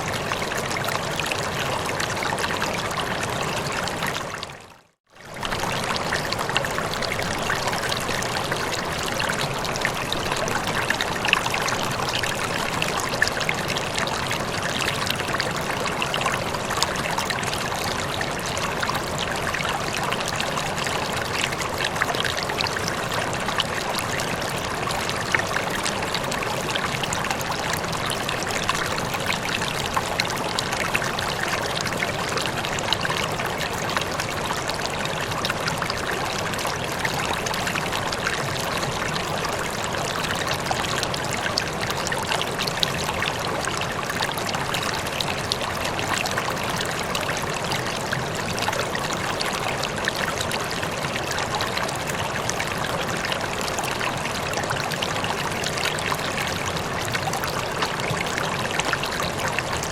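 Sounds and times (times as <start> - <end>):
stream water trickling: 0.0 - 59.9.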